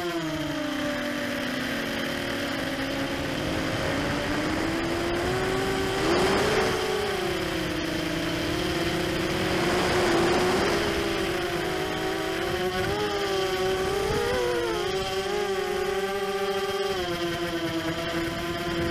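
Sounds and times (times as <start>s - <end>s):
drone motors whining: 0.0s - 18.9s.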